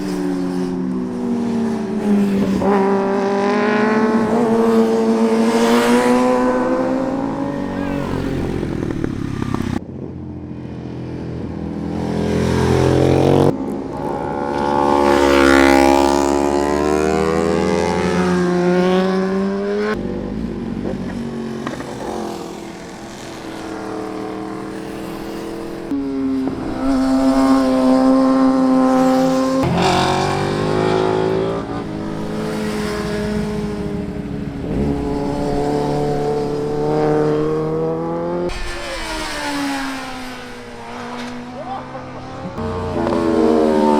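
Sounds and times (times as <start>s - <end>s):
motorcycle engine revving through gears: 0.0s - 9.9s, 10.6s - 43.9s.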